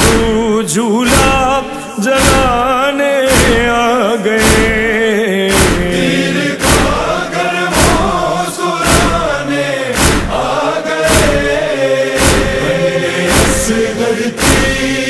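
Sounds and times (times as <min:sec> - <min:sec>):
men chanting a lament: 0:00.0 - 0:15.0
sharp regular beat: 0:00.0 - 0:15.0.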